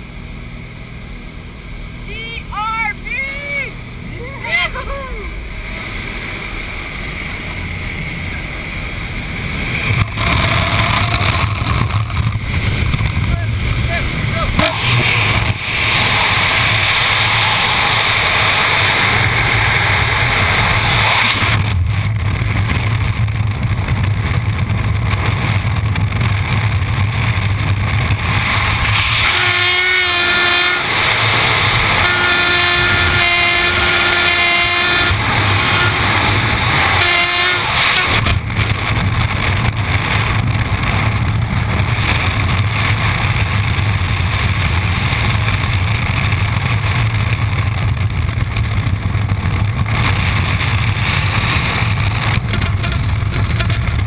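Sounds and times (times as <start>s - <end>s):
wind rushing past camera: 3.1s - 54.0s.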